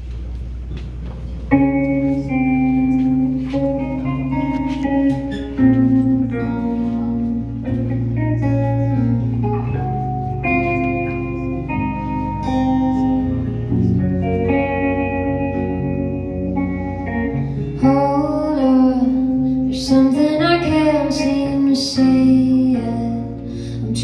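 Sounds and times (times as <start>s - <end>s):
bass line: 0.0s - 24.0s
electric guitar lead: 0.0s - 24.0s
live band playing instrumental: 1.5s - 24.0s.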